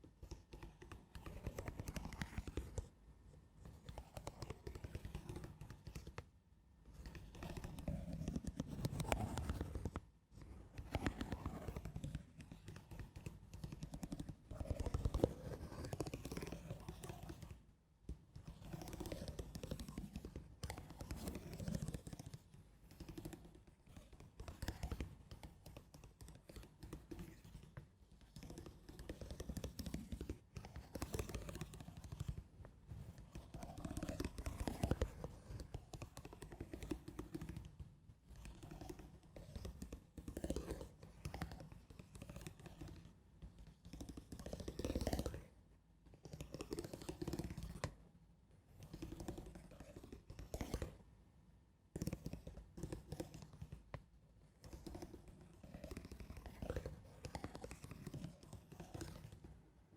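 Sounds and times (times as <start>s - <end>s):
soft scratching on surface: 0.0s - 48.1s.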